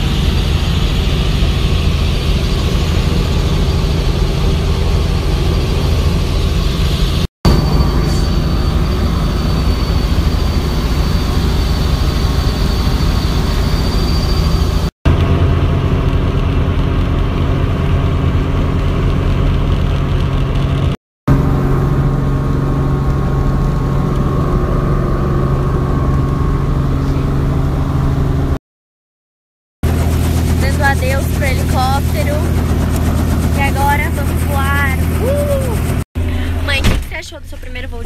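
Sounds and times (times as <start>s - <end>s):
helicopter engine and rotor drone: 0.0s - 28.6s, 29.8s - 36.7s.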